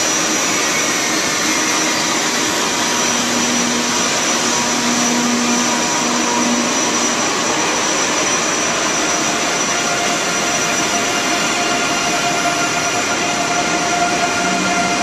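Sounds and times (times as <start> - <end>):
thin high whine: 0.0 - 15.0
train rushing noise: 0.0 - 15.0.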